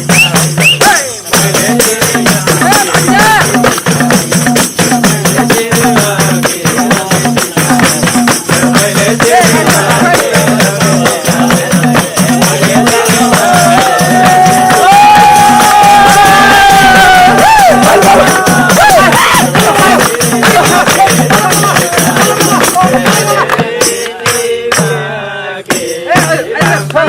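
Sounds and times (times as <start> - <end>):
tambourine jingles: 0.0 - 25.0
hand drum rhythm: 0.0 - 27.0.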